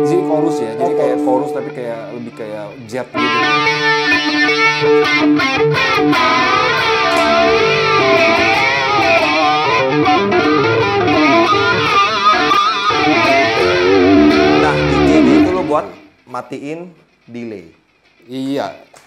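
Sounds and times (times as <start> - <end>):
electric guitar with flanger sweep: 0.0 - 16.1.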